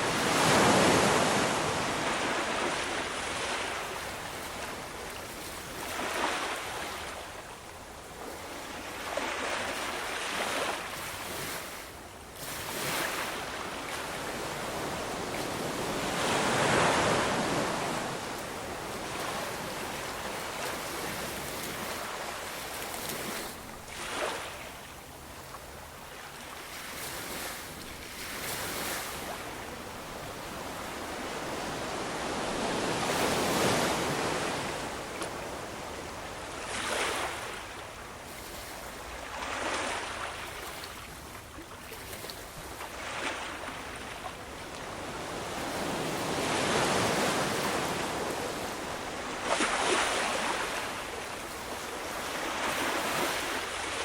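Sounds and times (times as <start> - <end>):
ocean waves crashing on shore: 0.0 - 41.2, 41.8 - 54.0.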